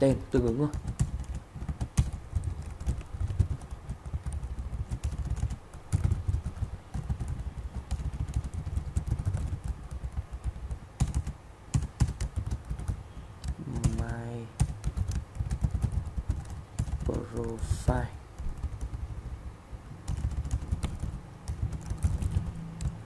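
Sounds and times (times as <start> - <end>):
typing on keyboard: 0.3 - 17.6, 18.3 - 19.4, 20.0 - 23.0.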